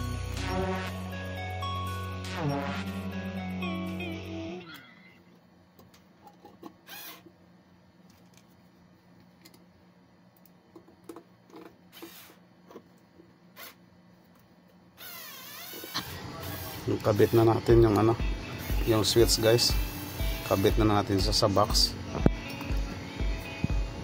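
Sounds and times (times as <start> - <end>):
low steady hum: 0.0 - 15.0, 16.0 - 24.0.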